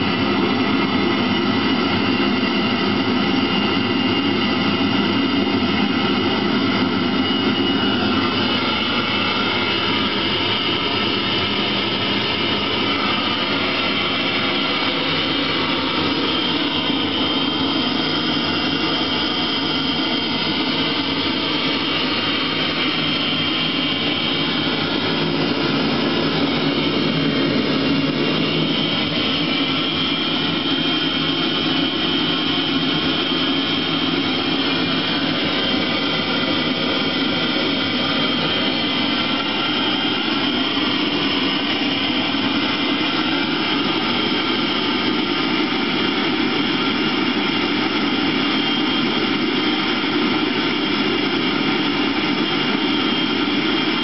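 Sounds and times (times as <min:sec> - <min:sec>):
heater fan and burner rushing: 0:00.0 - 0:54.0.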